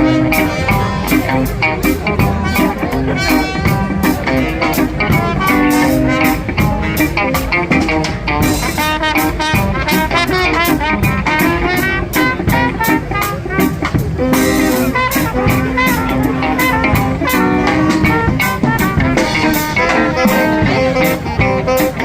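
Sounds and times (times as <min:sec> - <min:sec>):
brass horns playing melody: 0:00.0 - 0:22.0
drum kit beat: 0:00.0 - 0:22.0
guitar: 0:00.0 - 0:22.0.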